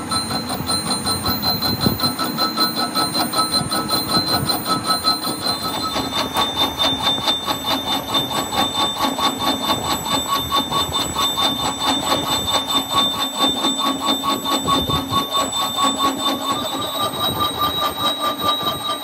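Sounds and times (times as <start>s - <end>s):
ringing metallic cutter strikes: 0.0s - 19.0s.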